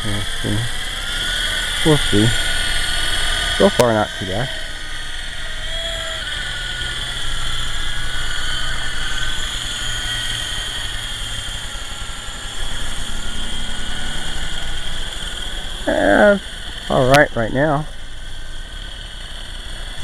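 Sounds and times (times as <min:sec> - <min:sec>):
rc helicopter rotor whir: 0:00.0 - 0:20.0.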